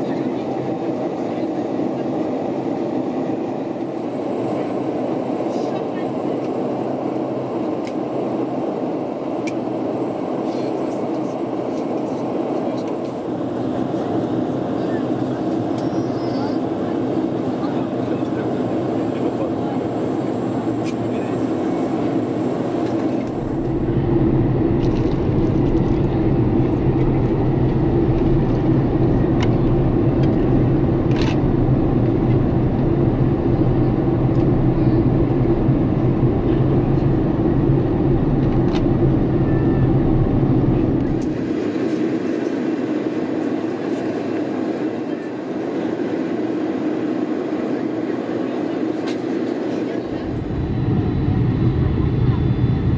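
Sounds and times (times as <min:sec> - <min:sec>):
airplane cabin engine noise: 0:00.0 - 0:52.9.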